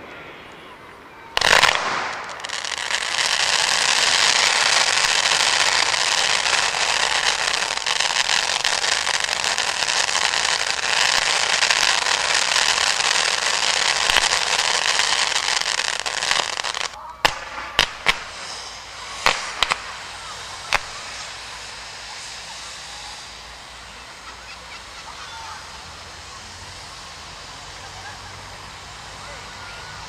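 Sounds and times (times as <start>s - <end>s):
firework fountain hissing and crackling: 0.0s - 30.0s.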